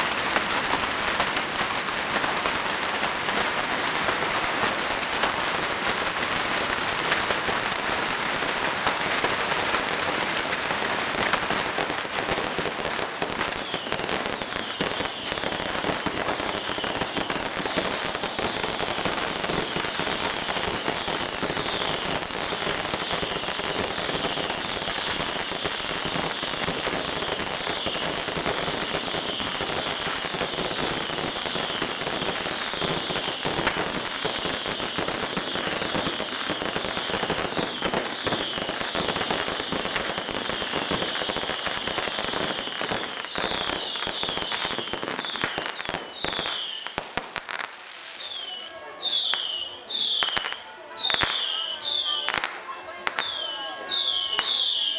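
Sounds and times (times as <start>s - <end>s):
bottle rockets crackling and hissing: 0.0s - 54.9s.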